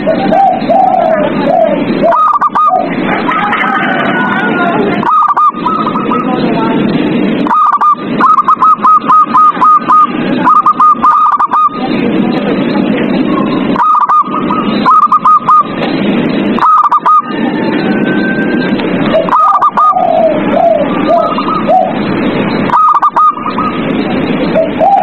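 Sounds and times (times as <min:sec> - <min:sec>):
dove cooing: 0:00.0 - 0:03.3, 0:03.9 - 0:06.4, 0:07.4 - 0:11.9, 0:13.3 - 0:15.8, 0:16.6 - 0:25.0
steady noisy background: 0:00.0 - 0:25.0.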